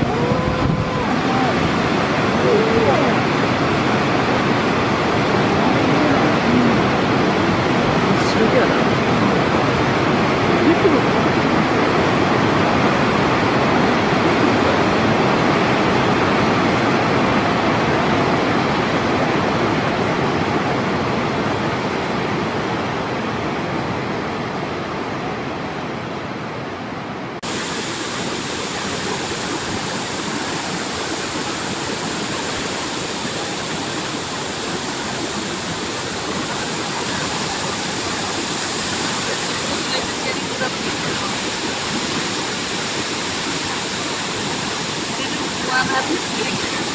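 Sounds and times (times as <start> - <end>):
water pouring and rushing: 0.0 - 25.9, 27.4 - 46.9.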